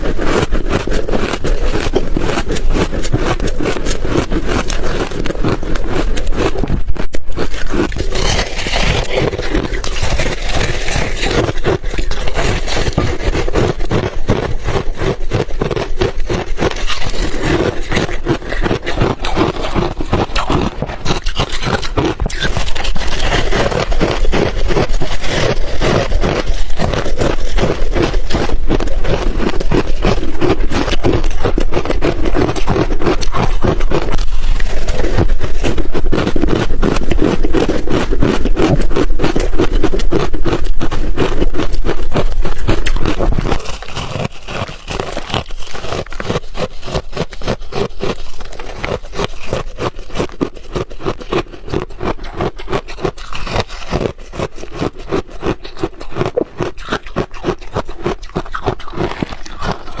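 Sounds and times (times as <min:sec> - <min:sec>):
ice being chewed: 0:00.0 - 1:00.0.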